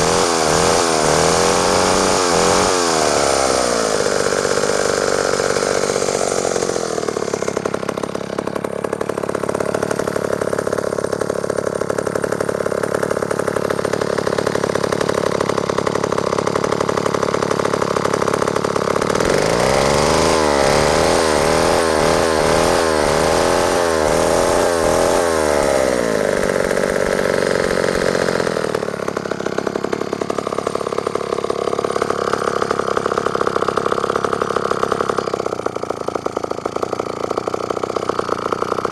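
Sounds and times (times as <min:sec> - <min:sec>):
chainsaw engine surging: 0:00.0 - 0:38.9.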